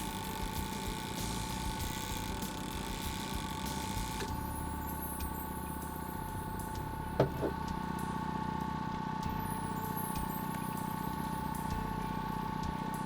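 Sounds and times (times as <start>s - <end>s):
boat motor droning: 0.0s - 13.0s.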